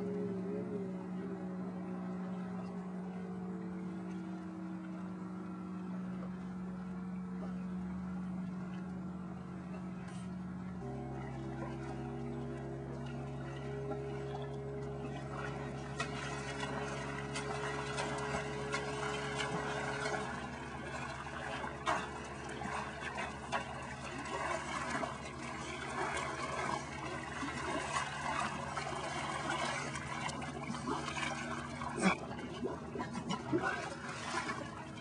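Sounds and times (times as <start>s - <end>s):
steady low hum: 0.0s - 35.0s
water splashing and lapping: 0.0s - 35.0s.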